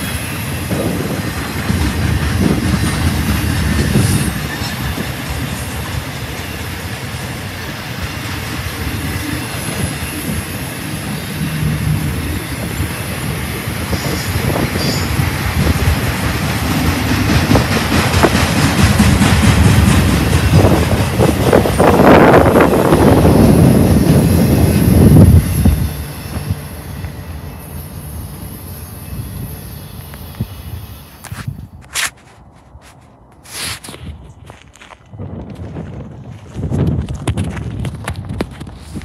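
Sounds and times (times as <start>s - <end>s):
freight train rolling past: 0.0s - 31.8s.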